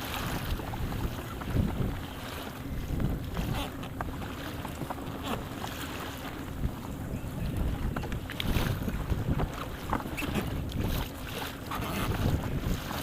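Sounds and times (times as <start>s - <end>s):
water slapping boat hull: 0.0s - 13.0s
wind buffeting microphone: 0.0s - 13.0s.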